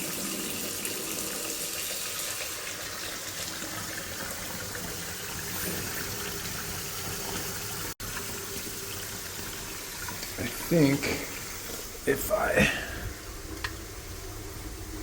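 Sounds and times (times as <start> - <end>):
faucet water running into sink: 0.0 - 15.0.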